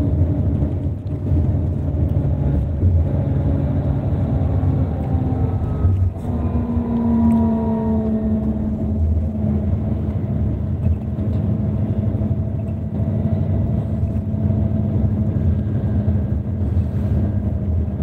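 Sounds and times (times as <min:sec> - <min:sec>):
bus engine and tyres rumbling: 0:00.0 - 0:18.0.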